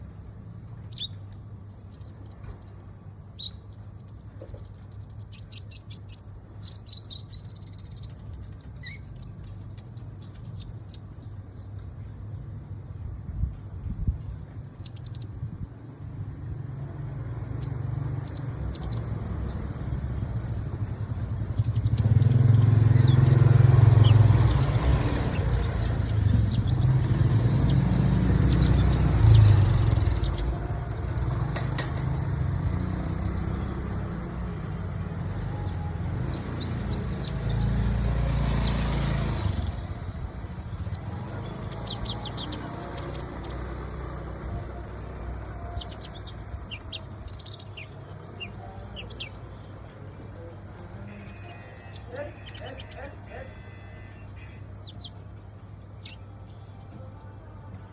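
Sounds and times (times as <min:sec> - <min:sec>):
sunbird chirping and trilling: 0:01.8 - 0:11.3, 0:14.5 - 0:15.4, 0:17.4 - 0:31.4, 0:32.0 - 0:53.2, 0:54.0 - 0:55.3, 0:55.9 - 0:57.4.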